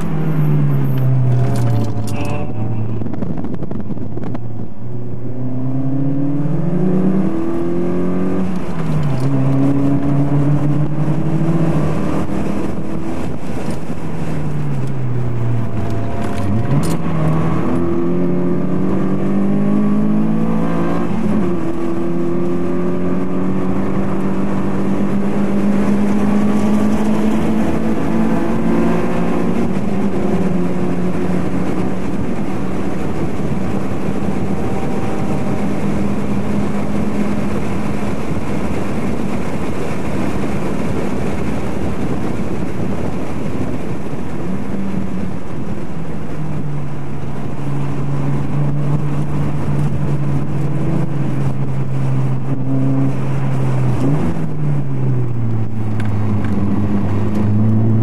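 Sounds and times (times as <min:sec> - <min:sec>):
car engine revving through gears: 0:00.0 - 0:58.0.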